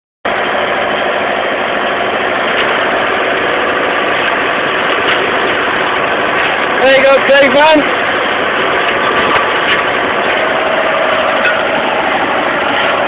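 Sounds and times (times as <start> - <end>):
tractor engine under load: 0.2 - 13.0.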